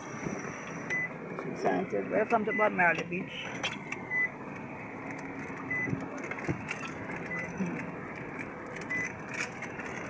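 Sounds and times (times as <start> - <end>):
van engine and road noise: 0.0 - 10.0.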